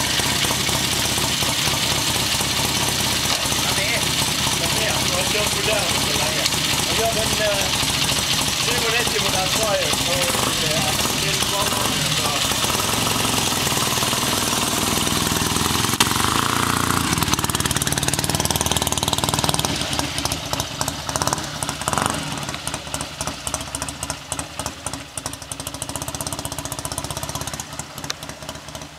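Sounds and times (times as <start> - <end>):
motorcycle engine revving and idling: 0.0 - 28.9.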